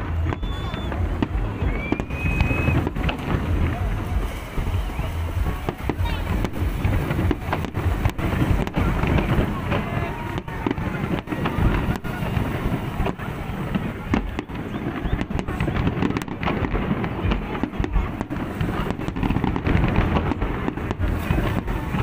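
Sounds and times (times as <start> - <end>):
fireworks bursts and crackle: 0.0 - 22.0.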